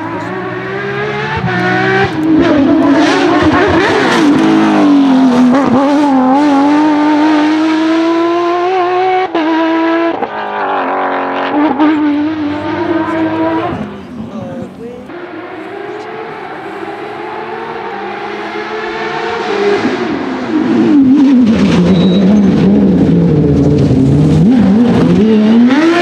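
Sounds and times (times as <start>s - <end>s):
rally car engine at high revs: 0.0s - 14.3s, 15.1s - 26.0s.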